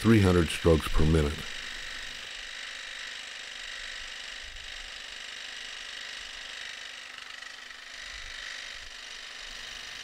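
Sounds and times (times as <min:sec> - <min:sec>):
jigsaw cutting sheet metal: 0:00.0 - 0:10.0.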